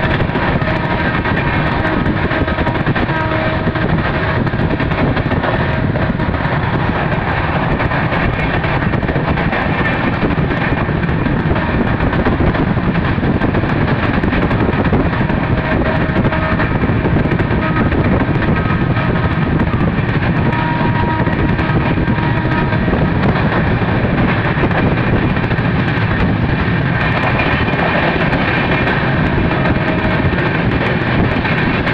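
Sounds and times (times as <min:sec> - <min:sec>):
train wheels rushing on rails: 0:00.0 - 0:31.9.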